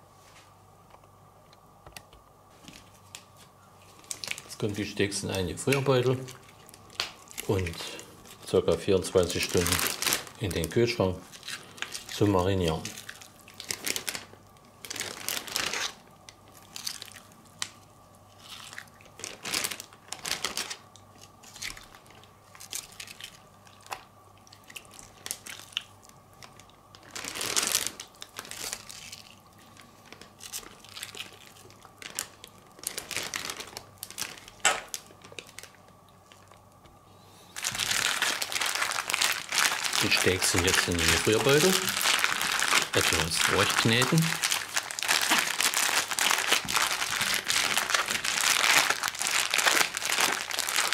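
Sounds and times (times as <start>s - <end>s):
plastic bag crinkling: 2.6s - 36.8s, 37.6s - 50.9s.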